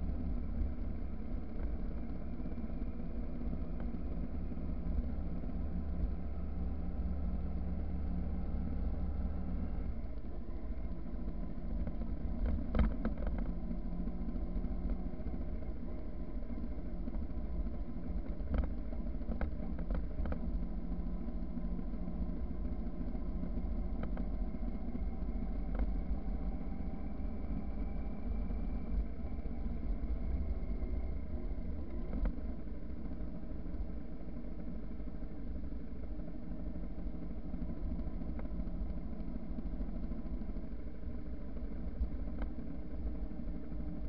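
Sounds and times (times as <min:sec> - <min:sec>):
motorcycle engine running: 0:00.0 - 0:44.0
road and wind rumble: 0:00.0 - 0:44.0.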